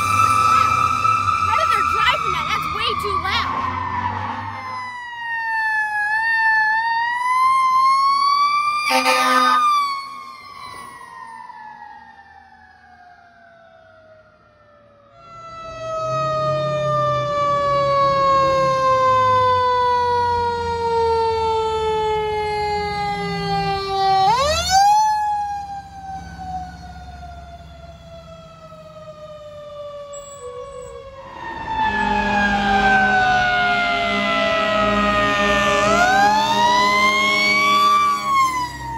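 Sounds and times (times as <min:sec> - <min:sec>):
fire engine sirens wailing: 0:00.0 - 0:38.9.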